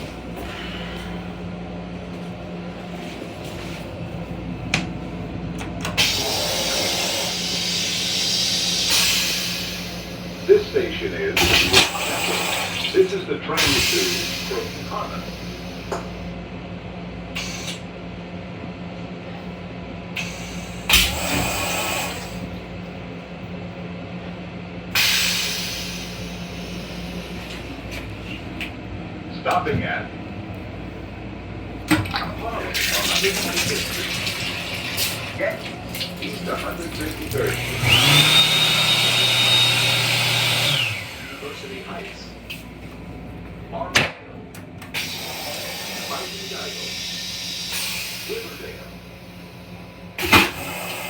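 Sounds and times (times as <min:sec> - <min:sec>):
railcar low hum: 0:00.0 - 0:39.8, 0:40.4 - 0:51.0.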